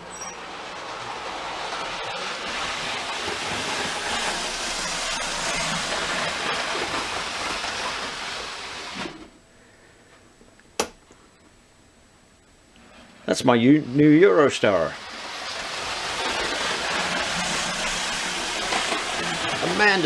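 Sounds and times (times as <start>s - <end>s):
model train motor whirring: 0.0s - 9.3s, 12.9s - 20.0s.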